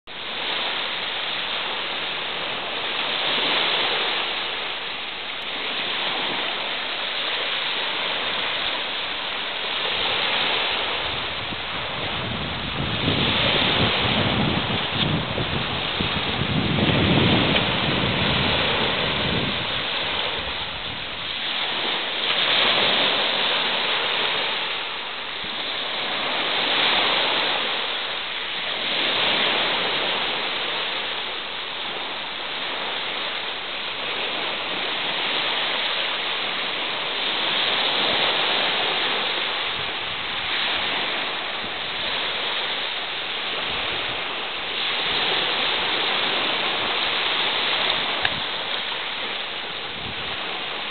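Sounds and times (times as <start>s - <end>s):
waves washing over pebbles: 0.1s - 50.9s.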